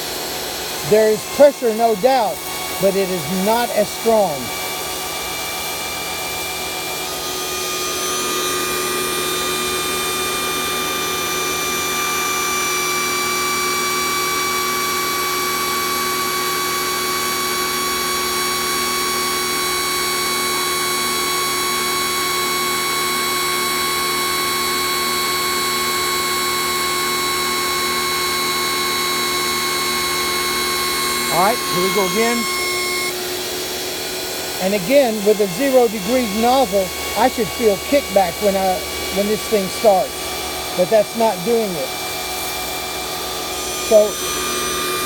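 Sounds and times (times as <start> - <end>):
pressure washer motor whining: 0.0 - 45.0.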